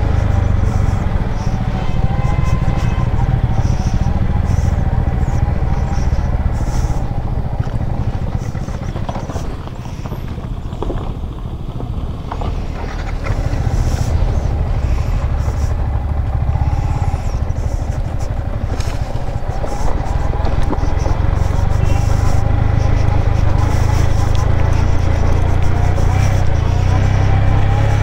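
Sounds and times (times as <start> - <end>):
motorcycle engine at low speed: 0.0 - 28.0.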